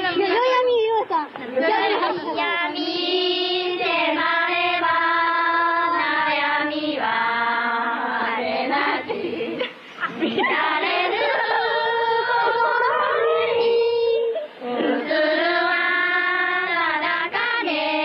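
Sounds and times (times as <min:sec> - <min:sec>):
women singing together: 0:01.3 - 0:18.0.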